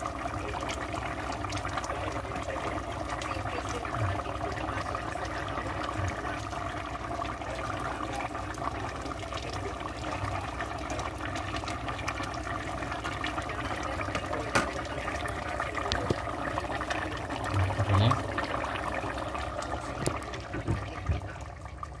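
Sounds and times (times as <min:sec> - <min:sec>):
stew bubbling in metal pot: 0:00.0 - 0:22.0.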